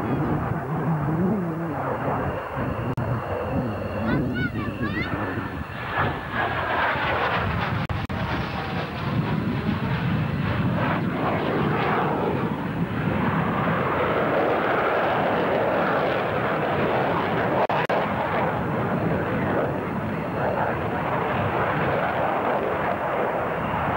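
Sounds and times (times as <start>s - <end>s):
jet roar: 0.0s - 23.9s.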